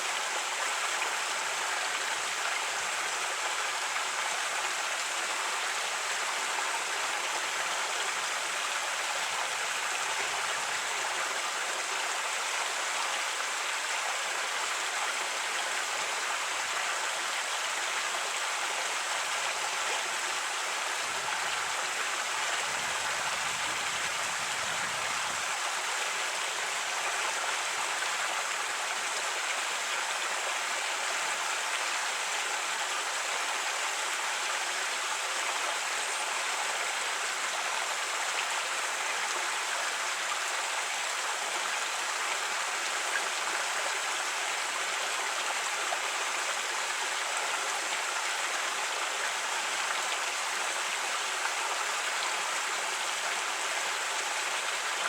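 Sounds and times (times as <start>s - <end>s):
creek babbling: 0.0s - 55.0s.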